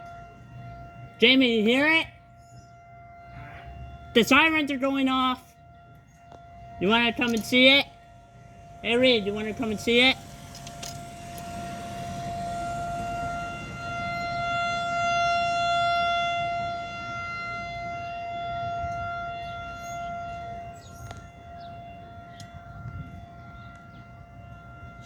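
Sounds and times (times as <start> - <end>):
warning siren steady tone: 0.0 - 25.0.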